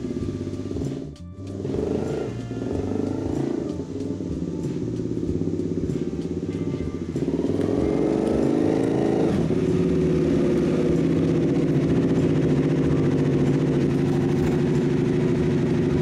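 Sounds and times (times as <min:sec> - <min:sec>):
motorcycle engine approaching and idling: 0:00.0 - 0:16.0.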